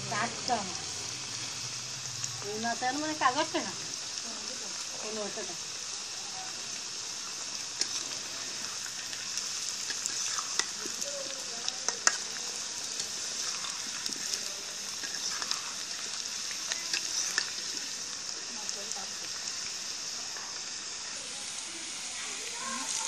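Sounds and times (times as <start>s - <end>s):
potatoes sizzling in hot oil: 0.0s - 23.0s.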